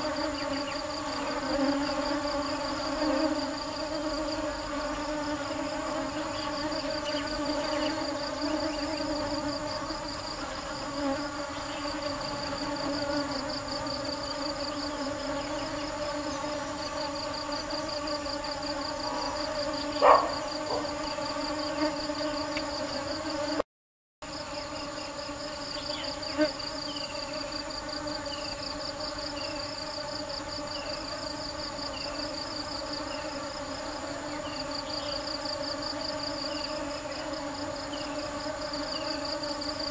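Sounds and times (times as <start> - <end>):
bees buzzing: 0.0 - 23.6, 24.3 - 39.9
high pulsing insect trill: 0.0 - 23.6, 24.2 - 39.9.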